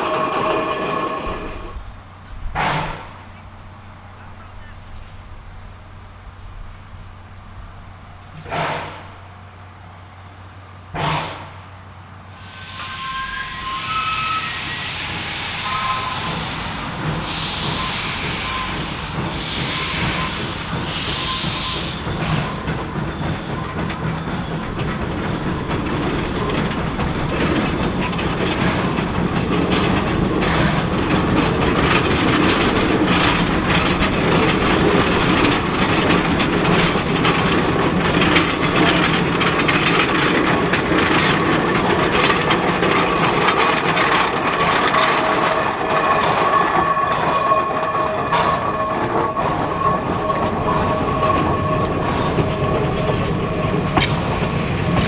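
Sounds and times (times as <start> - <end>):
steam locomotive puffing: 0.0 - 3.4, 8.3 - 9.4, 11.0 - 55.0
train rumbling on rails: 0.0 - 55.0.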